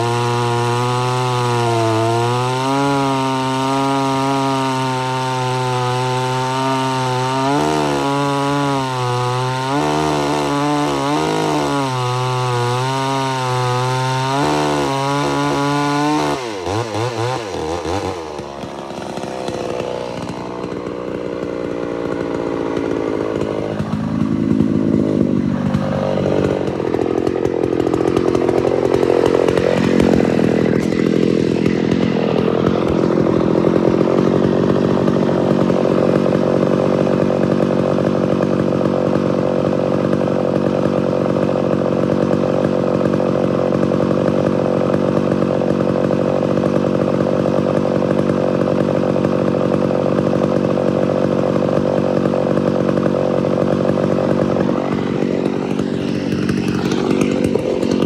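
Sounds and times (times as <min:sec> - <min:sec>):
chainsaw cutting a log: 0:00.0 - 0:58.0.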